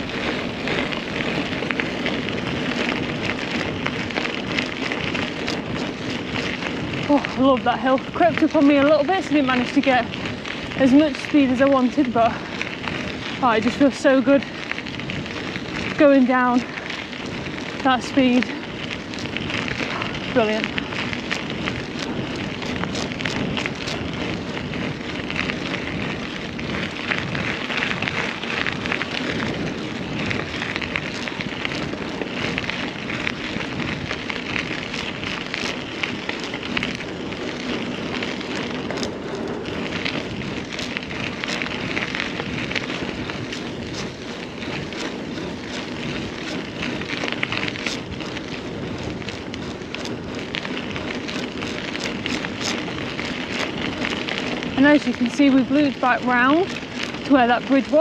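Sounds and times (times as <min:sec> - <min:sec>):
bike drivetrain and frame rattle: 0:00.0 - 0:58.0
bike tyres on rough trail: 0:00.0 - 0:58.0.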